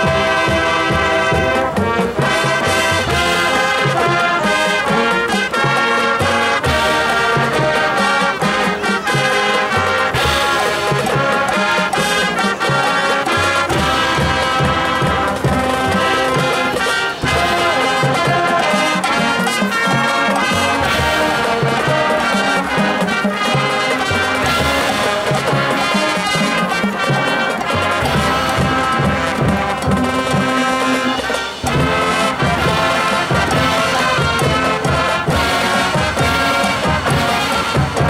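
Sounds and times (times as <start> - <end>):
marching band playing: 0.0 - 38.0.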